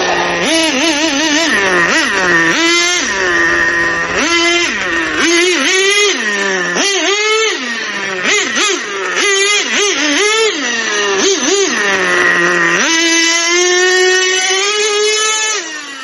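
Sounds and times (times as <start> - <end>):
rc car engine revving: 0.0 - 16.0.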